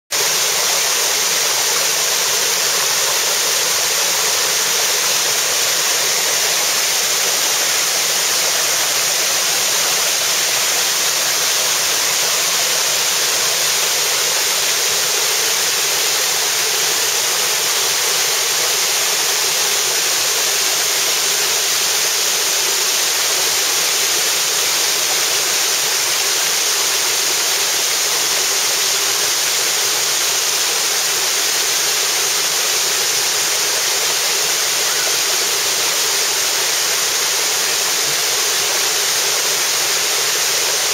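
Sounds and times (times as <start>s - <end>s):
waterfall rushing over rocks: 0.1s - 40.9s.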